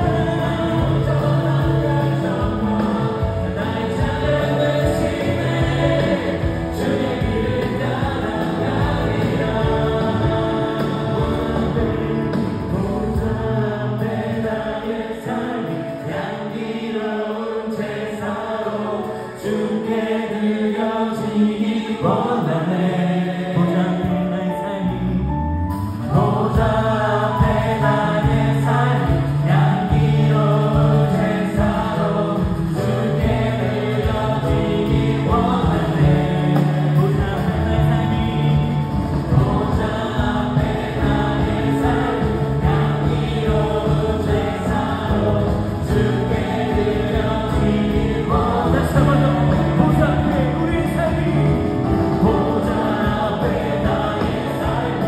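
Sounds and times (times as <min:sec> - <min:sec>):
bass guitar: 0:00.0 - 0:14.5, 0:24.0 - 0:55.0
drums: 0:00.0 - 0:16.3, 0:25.7 - 0:55.0
voices singing: 0:00.0 - 0:25.4, 0:26.0 - 0:55.0
keyboard: 0:00.0 - 0:55.0.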